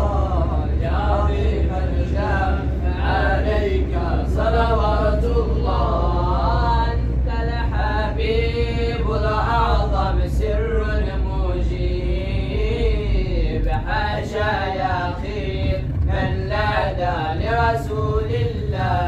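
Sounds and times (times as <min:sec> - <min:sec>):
steady low bass: 0:00.0 - 0:19.0.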